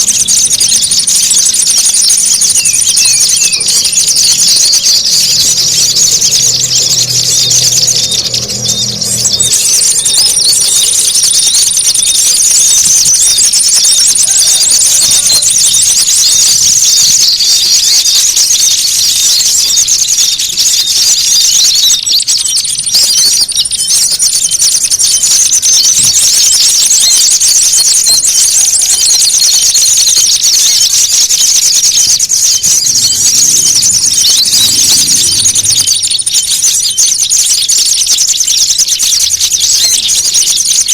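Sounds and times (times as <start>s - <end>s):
songbirds chattering and calling: 0.0s - 40.9s.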